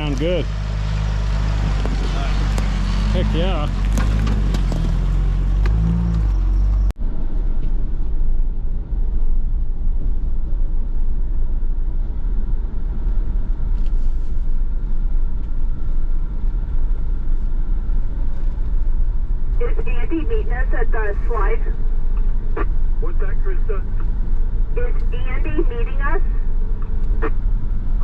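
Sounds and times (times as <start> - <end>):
vehicle engine rumbling on dirt trail: 0.0 - 28.0.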